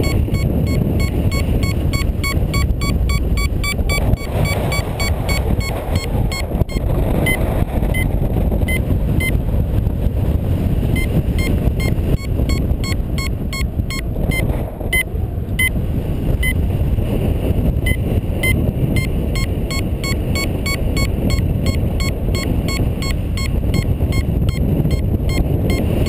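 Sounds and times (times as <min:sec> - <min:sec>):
variometer short high beeps: 0:00.0 - 0:09.4, 0:10.9 - 0:15.8, 0:16.4 - 0:16.6, 0:17.8 - 0:26.0
wind rushing over microphone: 0:00.0 - 0:26.0.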